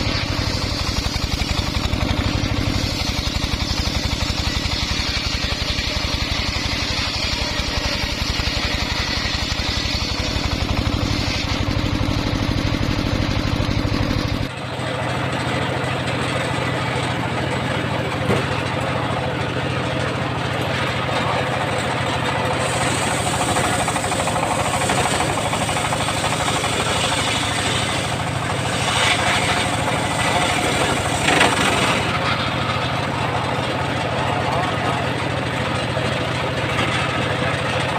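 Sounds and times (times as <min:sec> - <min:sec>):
engine running: 0:00.0 - 0:37.9.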